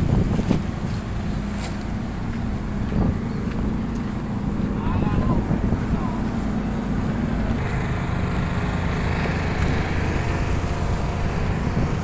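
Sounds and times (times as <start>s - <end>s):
engines rumbling: 0.0s - 12.0s
steady hum: 0.0s - 12.0s.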